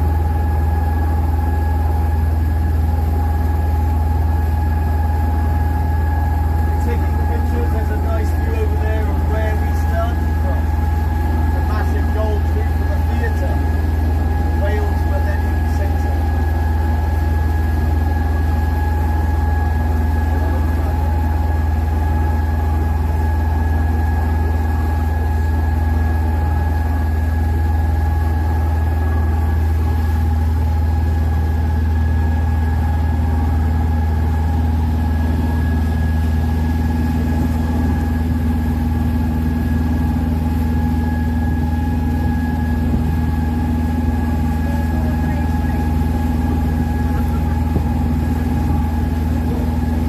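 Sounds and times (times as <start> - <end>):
boat engine drone: 0.0 - 50.0.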